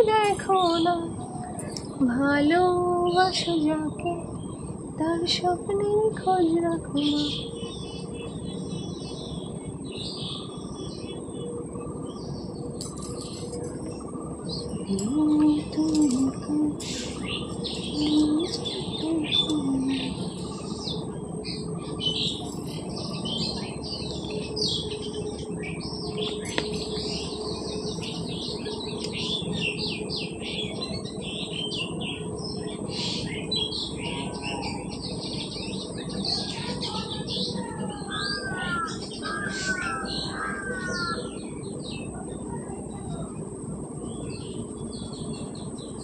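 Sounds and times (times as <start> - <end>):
repeated bird calls: 0.0 - 43.4
birds chirping: 0.0 - 46.0.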